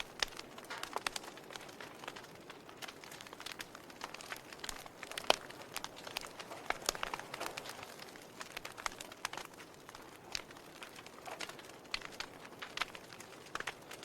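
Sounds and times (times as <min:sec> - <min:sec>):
faint fire hiss: 0:00.0 - 0:14.0
log fire crackling and popping: 0:00.0 - 0:14.0.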